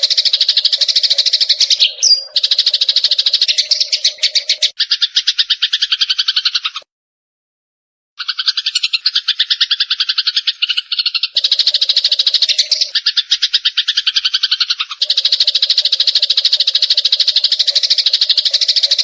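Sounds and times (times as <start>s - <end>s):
sparrows chirping: 0.0s - 6.9s, 8.2s - 19.0s.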